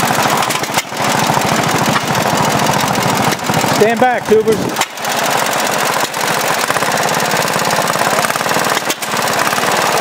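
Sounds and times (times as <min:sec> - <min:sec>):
small engine running loud: 0:00.0 - 0:10.0.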